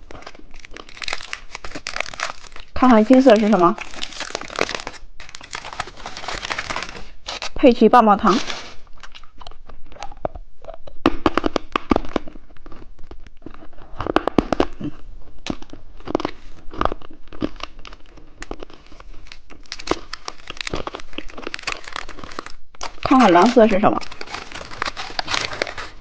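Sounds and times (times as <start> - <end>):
plastic wrapper crinkling: 0.0 - 10.4, 11.2 - 26.0.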